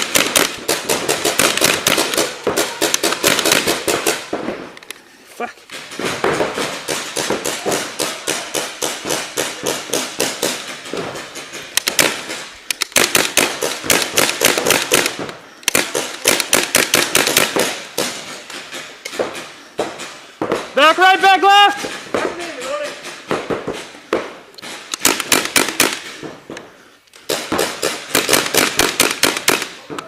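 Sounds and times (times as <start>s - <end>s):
paintball guns firing pops: 0.0s - 5.0s, 5.7s - 20.8s, 21.8s - 30.0s.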